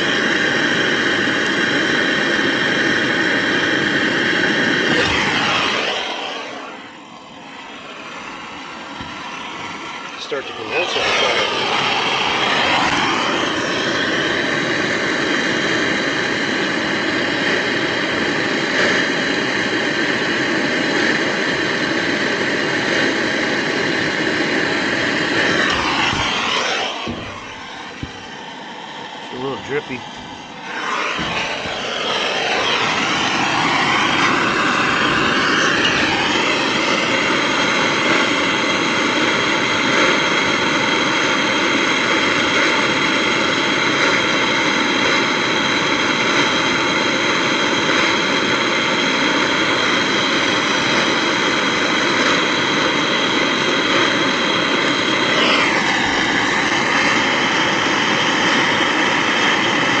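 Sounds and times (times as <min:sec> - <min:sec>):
torch flame roaring: 0:00.0 - 1:00.0.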